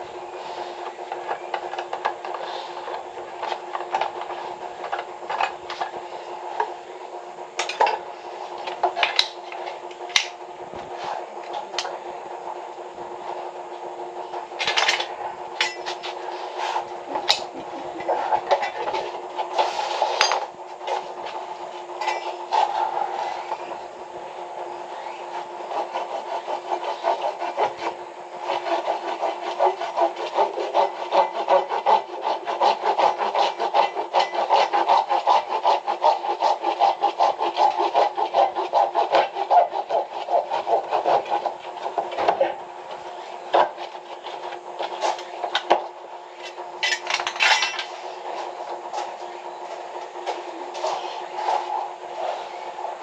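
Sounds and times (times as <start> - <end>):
hand tool rasping strokes: 0.0 - 7.0, 14.6 - 53.0.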